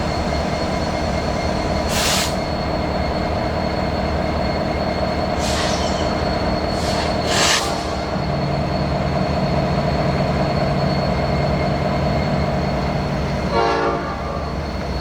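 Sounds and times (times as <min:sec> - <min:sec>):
high-pitched wheel squeal: 0:00.0 - 0:13.5
freight train cars rumbling: 0:00.0 - 0:15.0.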